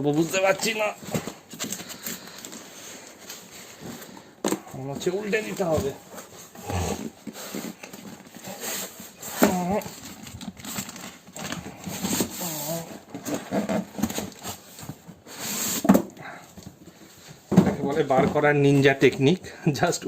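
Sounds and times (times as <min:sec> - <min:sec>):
cardboard and foam rustling: 0:00.0 - 0:20.0.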